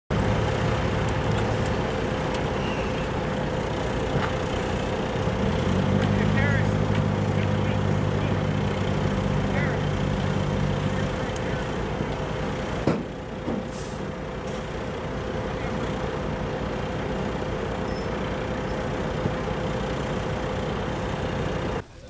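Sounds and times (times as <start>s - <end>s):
vehicle engines running: 0.1s - 22.0s.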